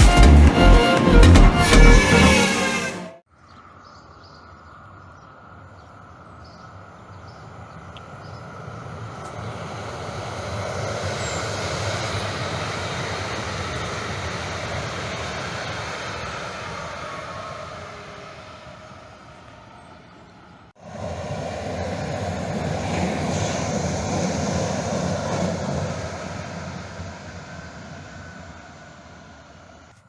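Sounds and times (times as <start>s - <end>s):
train rumbling: 0.0s - 3.2s, 5.4s - 30.0s.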